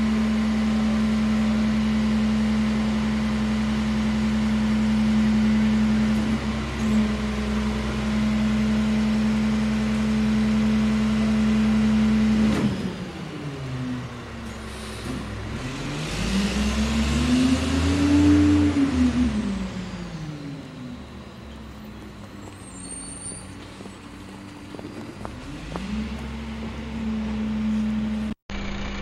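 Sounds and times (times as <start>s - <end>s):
garbage truck diesel engine: 0.0s - 29.0s.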